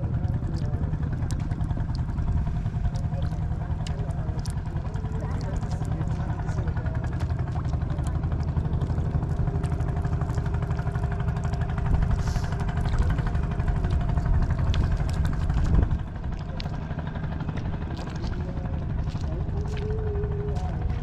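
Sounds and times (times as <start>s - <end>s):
motor droning: 0.0s - 21.0s.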